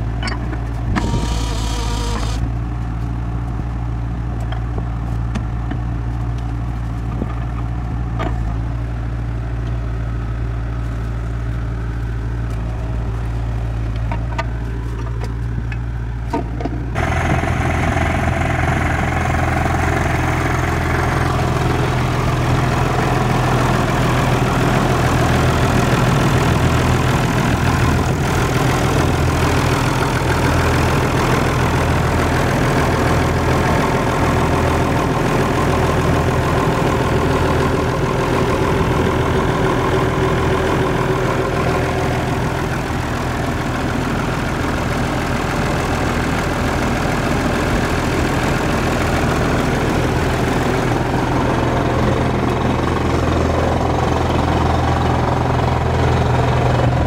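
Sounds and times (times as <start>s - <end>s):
heavy engine humming: 0.0s - 57.0s.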